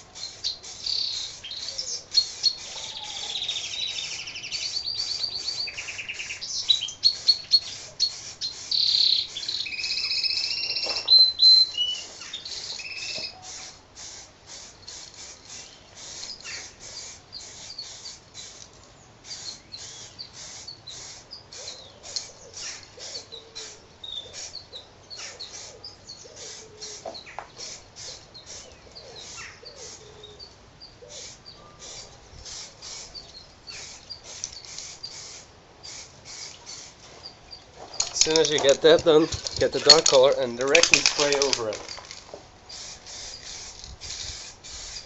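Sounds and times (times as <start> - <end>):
small birds chirping: 0.0 - 45.0
spray can hissing: 0.1 - 24.6, 25.4 - 25.8, 26.4 - 27.0, 27.6 - 30.0, 31.1 - 37.2, 38.1 - 45.0.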